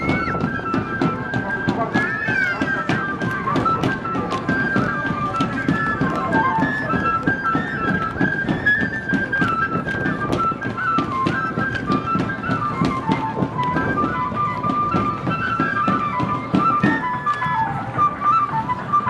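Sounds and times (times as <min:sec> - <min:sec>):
high flute melody: 0:00.0 - 0:19.0.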